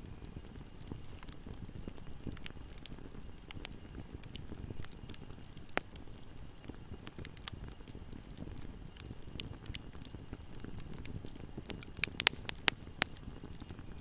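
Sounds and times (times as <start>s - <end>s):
campfire crackling: 0.0s - 14.0s
sharp fire pops: 0.0s - 14.0s.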